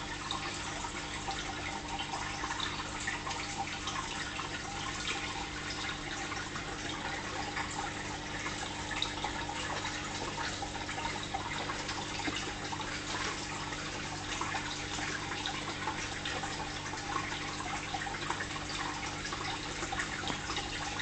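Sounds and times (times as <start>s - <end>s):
fish tank water trickling: 0.0s - 21.0s.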